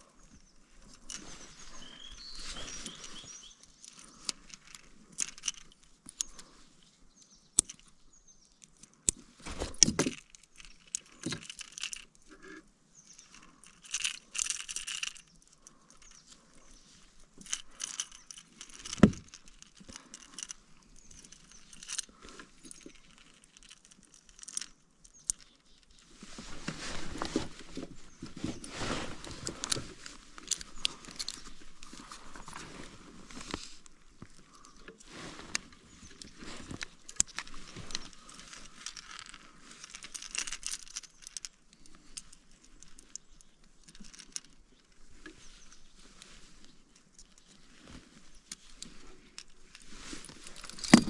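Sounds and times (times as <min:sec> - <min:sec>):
rustling: 0:00.0 - 0:08.0, 0:09.2 - 0:51.0.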